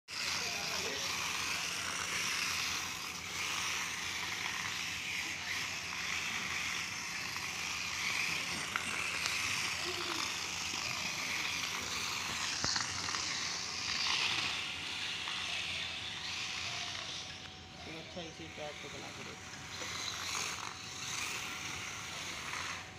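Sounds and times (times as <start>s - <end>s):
toy car motor whirring: 0.1s - 22.9s.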